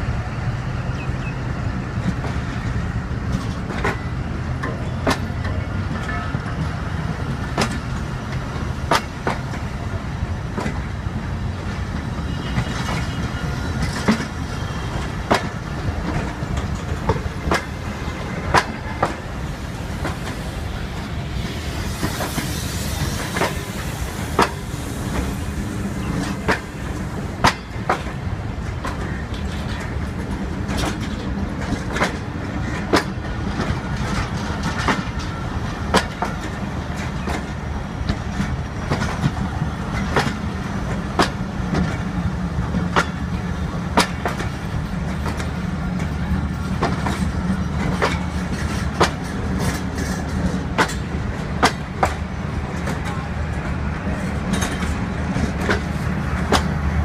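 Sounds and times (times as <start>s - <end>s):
train coaches rumbling on rails: 0.0s - 57.0s
wheels clacking over rail joints: 1.9s - 57.0s.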